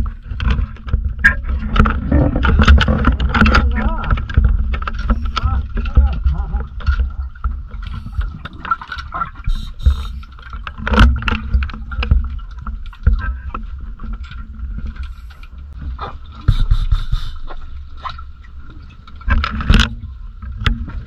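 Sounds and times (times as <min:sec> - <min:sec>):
muffled underwater water movement: 0:00.0 - 0:21.0.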